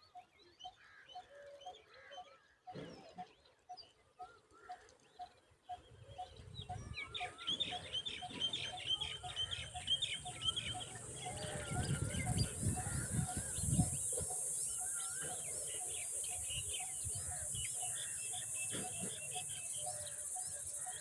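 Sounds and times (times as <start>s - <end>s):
birds chattering: 0.3s - 21.0s.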